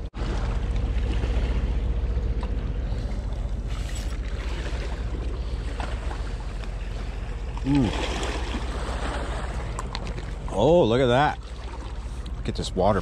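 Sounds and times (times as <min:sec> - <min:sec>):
river water lapping: 0:00.0 - 0:13.0.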